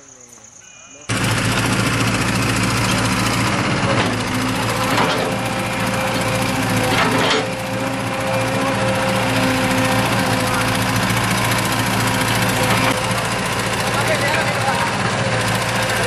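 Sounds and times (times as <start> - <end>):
excavator diesel engine running: 1.1 - 16.0.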